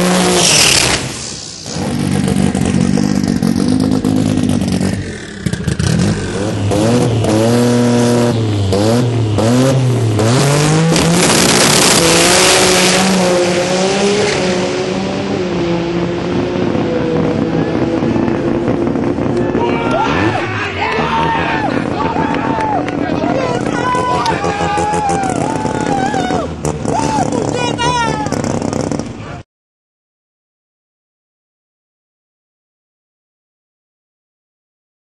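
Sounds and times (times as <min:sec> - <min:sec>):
car engine revving loudly: 0:00.0 - 0:29.2.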